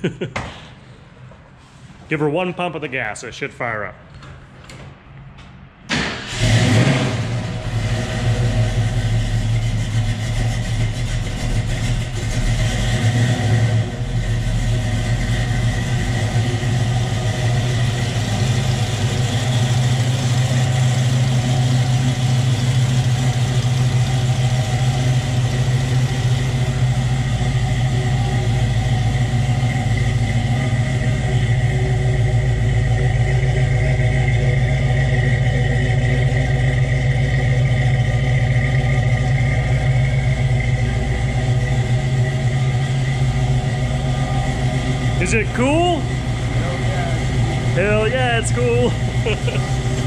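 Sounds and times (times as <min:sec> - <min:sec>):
engine running: 0:05.4 - 0:50.0.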